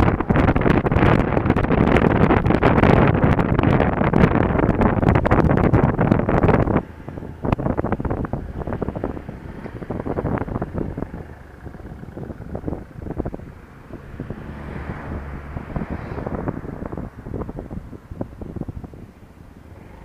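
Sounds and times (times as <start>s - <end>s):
scooter engine hum: 0.0s - 20.0s
wind rushing over microphone: 0.0s - 20.0s.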